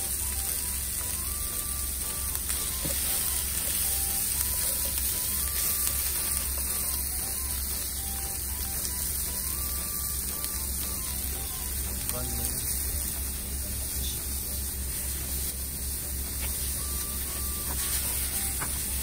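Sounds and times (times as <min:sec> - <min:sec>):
faint background music: 0:00.0 - 0:19.0
food sizzling in a frying pan: 0:00.0 - 0:19.0
steady low hum: 0:00.0 - 0:19.0.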